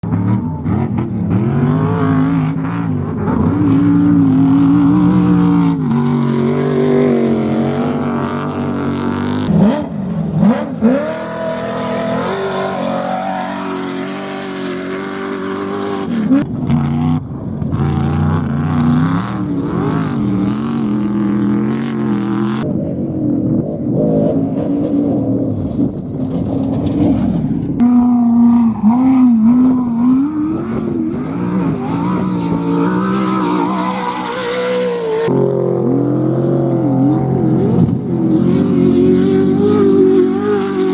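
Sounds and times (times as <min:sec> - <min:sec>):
race engines revving: 0:00.0 - 0:40.9.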